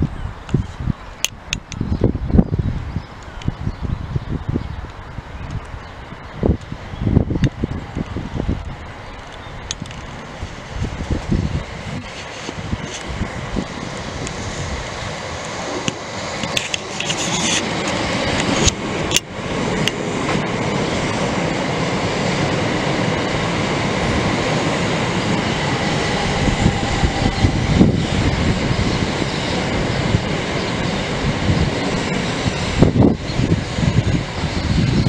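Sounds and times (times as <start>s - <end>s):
train wheels rushing on rails: 4.8s - 35.0s.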